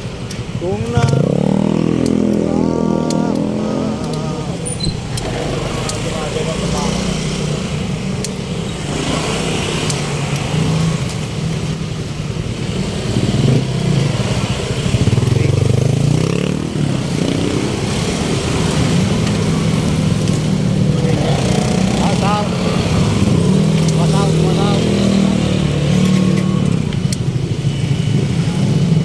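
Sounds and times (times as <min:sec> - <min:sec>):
traffic engine drone: 0:00.0 - 0:29.0
engine revving: 0:00.6 - 0:29.0.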